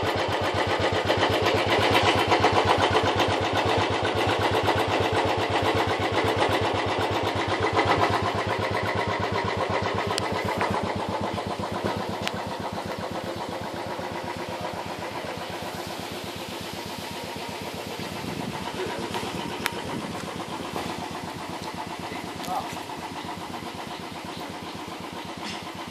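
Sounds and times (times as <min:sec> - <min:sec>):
small engine idling: 0:00.0 - 0:25.9.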